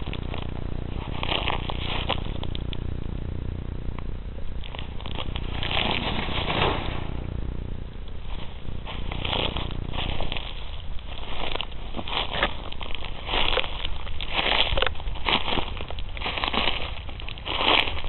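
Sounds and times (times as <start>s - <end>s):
leaf litter rustling: 0.0s - 3.4s, 4.4s - 18.0s
low rumble: 0.0s - 18.0s.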